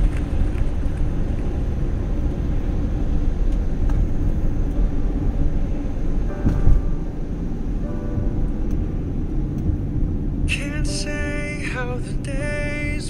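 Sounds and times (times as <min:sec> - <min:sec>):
car engine: 0:00.0 - 0:13.0
tyres on wet road: 0:00.0 - 0:13.0.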